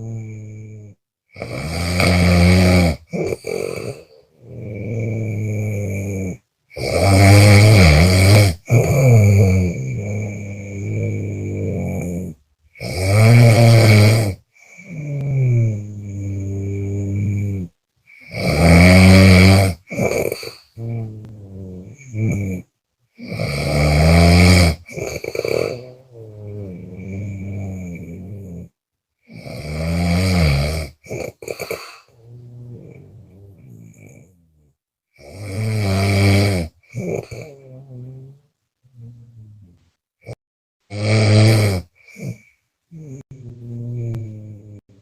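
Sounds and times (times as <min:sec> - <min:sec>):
person snoring loudly: 0:00.0 - 0:45.0.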